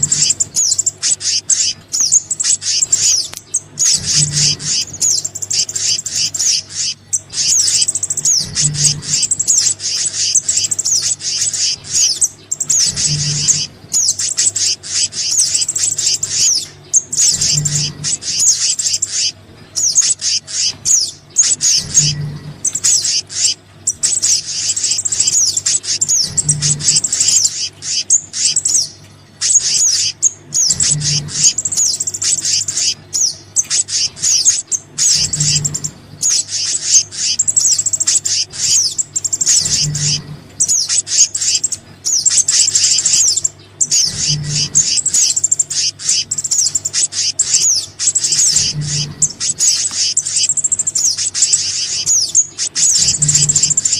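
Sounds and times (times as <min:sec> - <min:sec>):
small birds chirping and trilling: 0:00.0 - 0:53.9.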